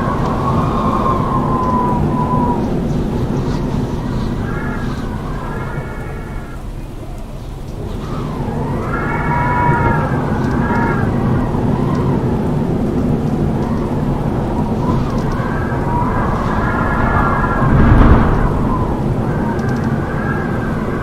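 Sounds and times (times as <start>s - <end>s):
strong wind howling: 0.0s - 21.0s.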